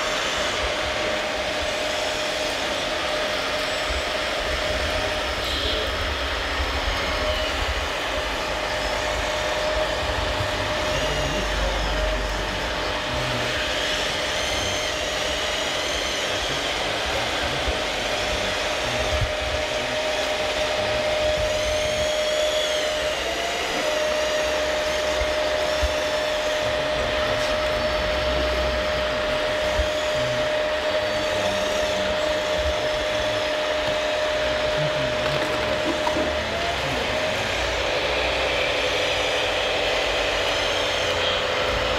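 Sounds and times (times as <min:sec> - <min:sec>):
hydraulic pump whining and hissing: 0:00.0 - 0:41.9.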